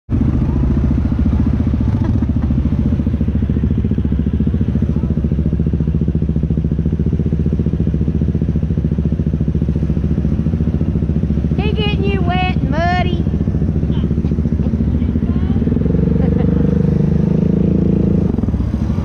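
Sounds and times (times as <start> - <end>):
atv engine running: 0.1 - 19.0.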